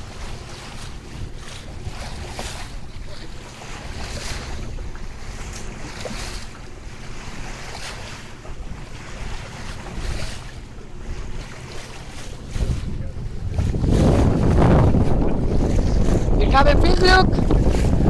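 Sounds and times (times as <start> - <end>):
water rushing at boat bow: 0.0 - 18.0
wind buffeting microphone: 0.0 - 18.0.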